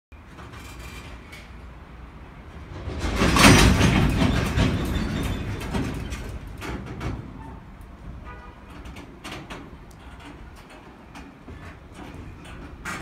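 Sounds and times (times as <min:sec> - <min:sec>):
train couplers clanking: 0:00.2 - 0:13.0.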